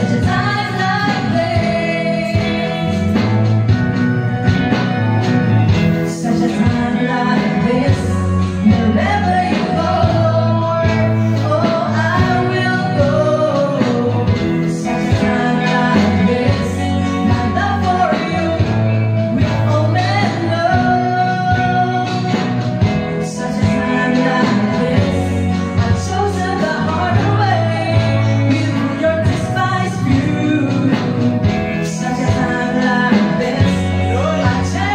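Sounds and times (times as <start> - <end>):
women singing gospel through pa: 0.0 - 3.1, 6.1 - 34.9
electric guitar: 0.0 - 34.9
steady bass line: 0.0 - 34.9.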